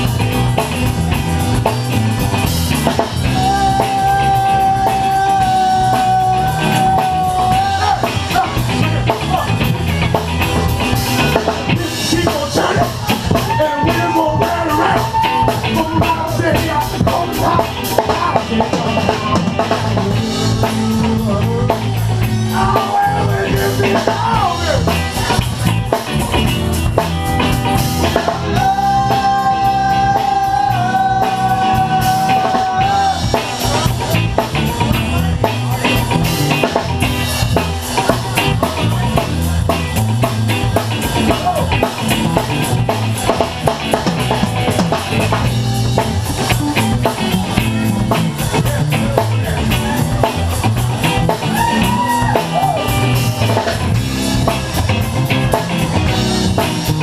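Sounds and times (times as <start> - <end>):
drum rimshots: 0.0 - 57.0
rock band playing: 0.0 - 57.0.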